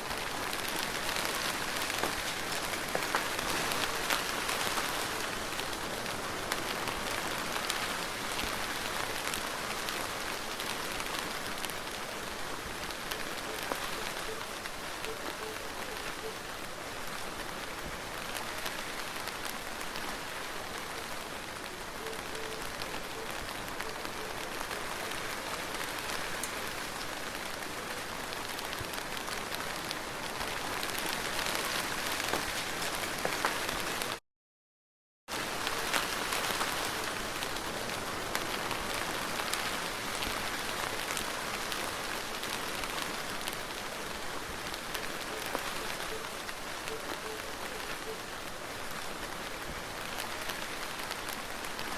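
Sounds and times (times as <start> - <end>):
soft rain falling: 0.0 - 34.2, 35.3 - 51.9.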